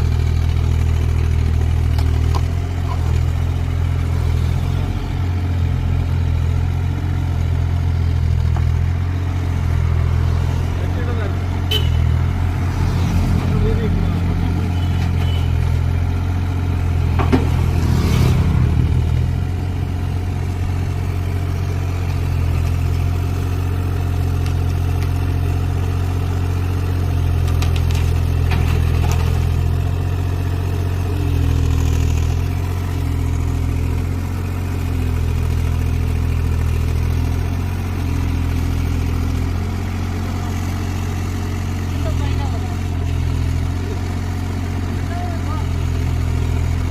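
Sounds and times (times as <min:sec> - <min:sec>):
excavator diesel engine: 0:00.0 - 0:46.9.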